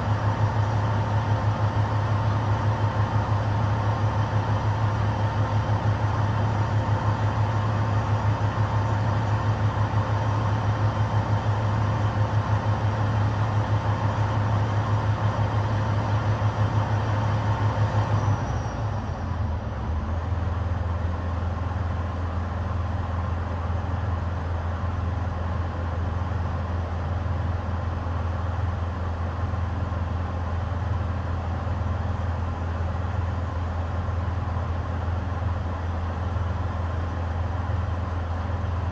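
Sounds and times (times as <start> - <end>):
truck diesel engine idling: 0.0 - 38.9.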